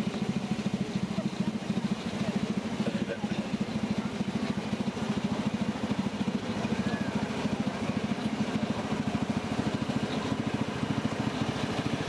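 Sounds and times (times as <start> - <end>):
miniature steam train chuffing: 0.0 - 12.0.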